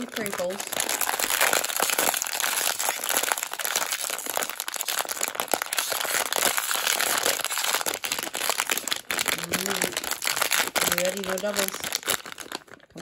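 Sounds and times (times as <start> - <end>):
plastic foil bag crinkling: 0.0 - 13.0.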